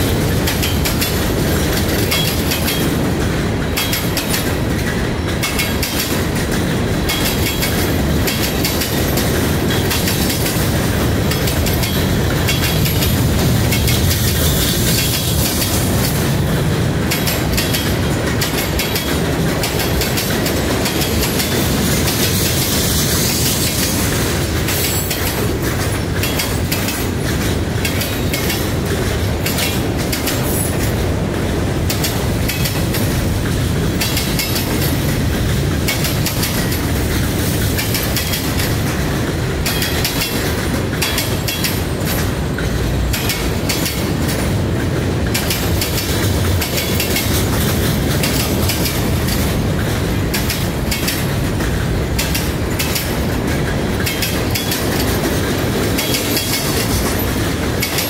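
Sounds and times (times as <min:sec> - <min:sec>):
steel wheels rumbling on rail: 0:00.0 - 0:58.0
wheels clacking over rail joints: 0:00.0 - 0:58.0.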